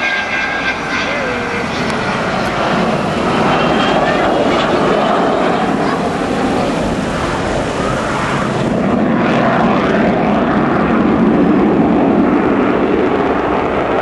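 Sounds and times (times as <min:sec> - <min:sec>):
jet engines rumbling in flight: 0:00.0 - 0:14.0.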